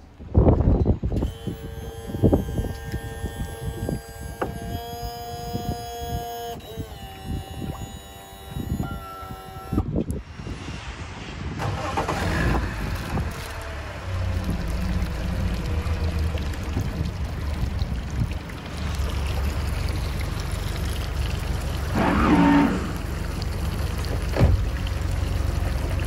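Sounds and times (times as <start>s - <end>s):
outboard motor low rumble: 0.0s - 10.2s, 11.8s - 26.0s.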